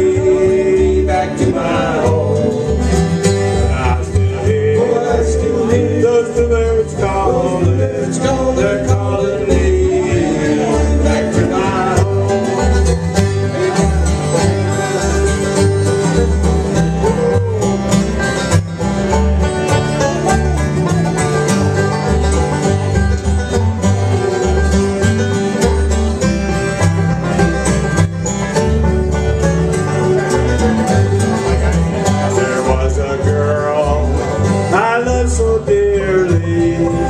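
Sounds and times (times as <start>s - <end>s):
plucked strings: 0.0s - 37.0s
steady bass line: 0.0s - 37.0s.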